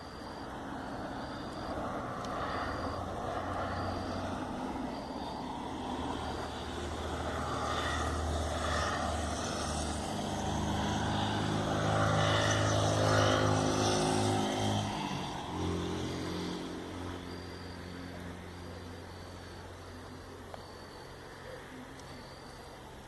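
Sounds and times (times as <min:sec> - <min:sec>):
vehicle engine passing by: 0:00.2 - 0:20.1.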